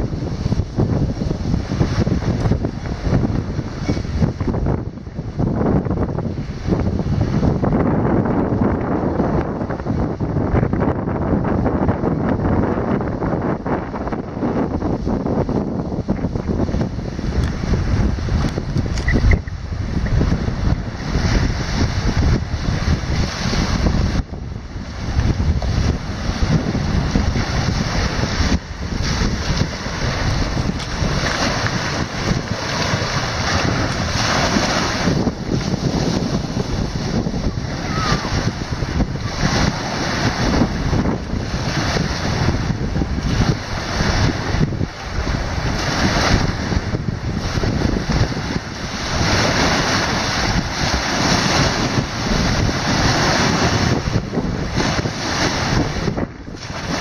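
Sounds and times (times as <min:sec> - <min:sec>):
waves breaking on shore: 0:00.0 - 0:57.0
wind gusting on microphone: 0:00.0 - 0:57.0.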